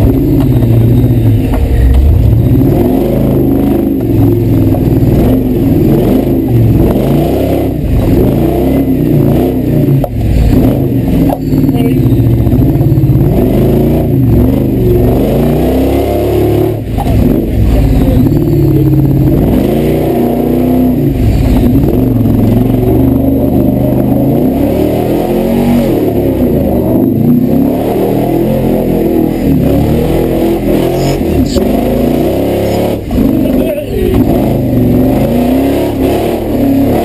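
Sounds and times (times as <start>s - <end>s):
engine revving: 0.0s - 37.0s.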